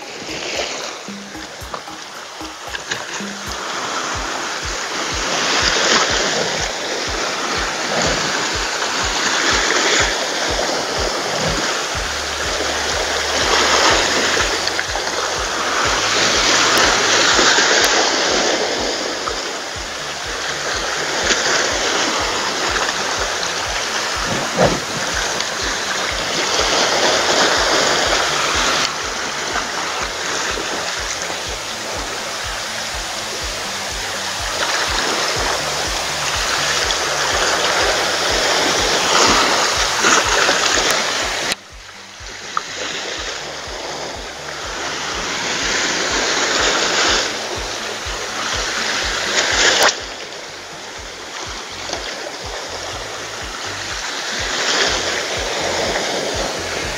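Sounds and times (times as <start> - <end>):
waves splashing over rocks: 0.0 - 56.9.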